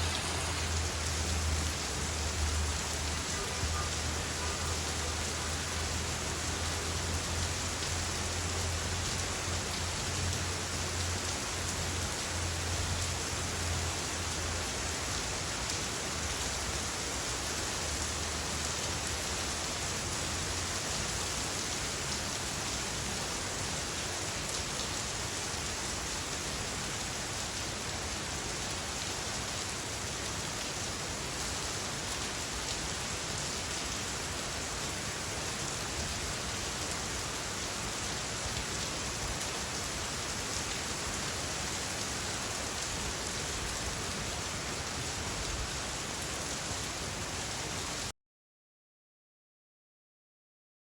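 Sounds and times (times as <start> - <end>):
heavy rain pattering: 0.0 - 48.1.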